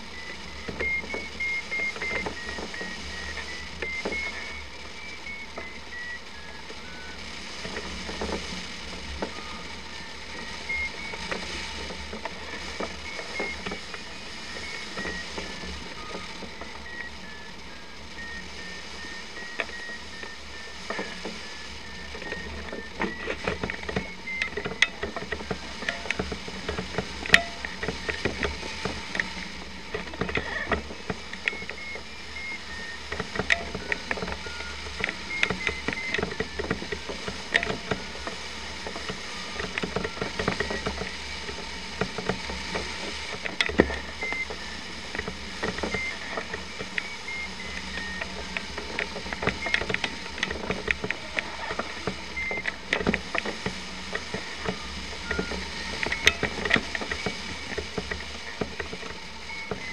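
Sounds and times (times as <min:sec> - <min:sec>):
variometer beeps: 0:00.0 - 0:59.9
sharp clicks and rattles: 0:00.1 - 0:59.9.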